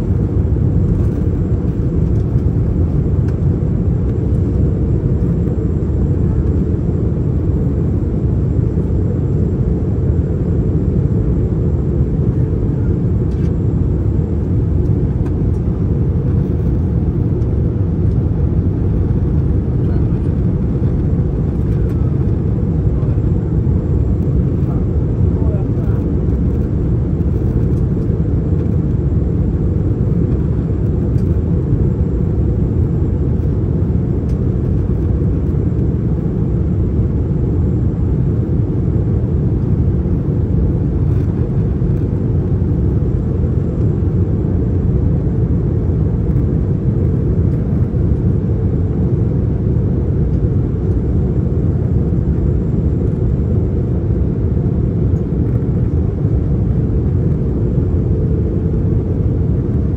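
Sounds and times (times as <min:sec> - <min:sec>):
airliner cabin engine roar: 0:00.0 - 0:59.9.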